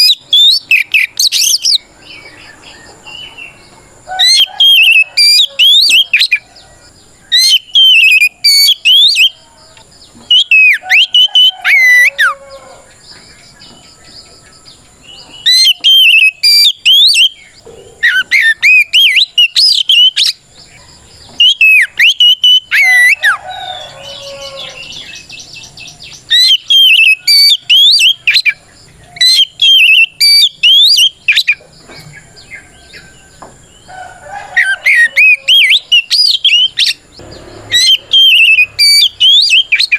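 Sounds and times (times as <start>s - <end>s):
bird singing whistled song: 0.0s - 12.4s, 13.0s - 33.9s, 34.6s - 39.9s
soft scratchy bird chatter: 0.0s - 39.9s.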